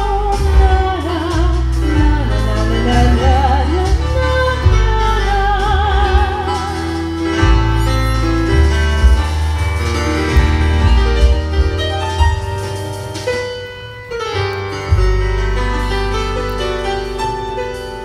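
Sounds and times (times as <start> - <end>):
backing track with bass: 0.0 - 18.0.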